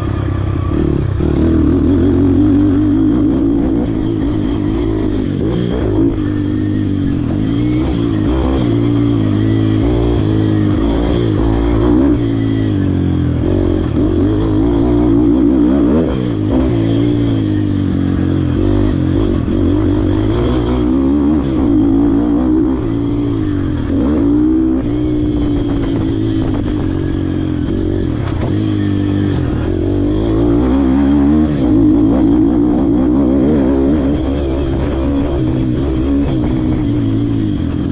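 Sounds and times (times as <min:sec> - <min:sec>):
motorbike engine revving: 0:00.0 - 0:37.9.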